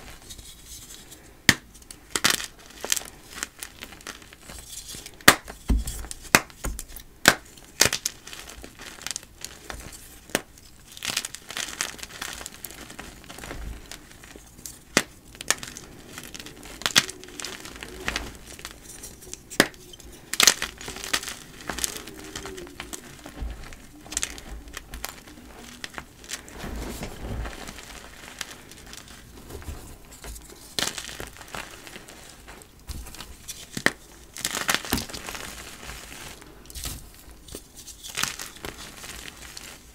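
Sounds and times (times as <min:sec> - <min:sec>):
chalk crunching and crackling: 0:00.0 - 0:39.9
powdery crumbling rustle: 0:00.0 - 0:39.9.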